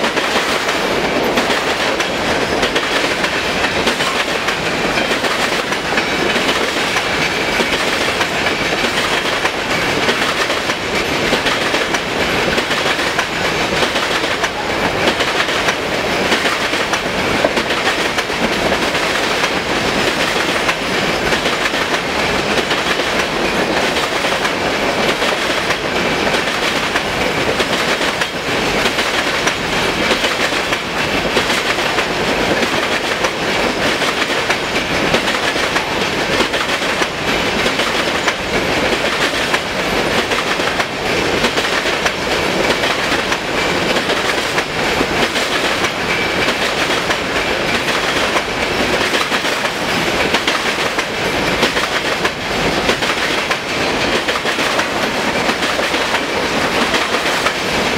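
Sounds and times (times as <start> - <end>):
train wheels rumbling on rail: 0.0 - 57.9
wheels clacking over rail joints: 0.0 - 57.9.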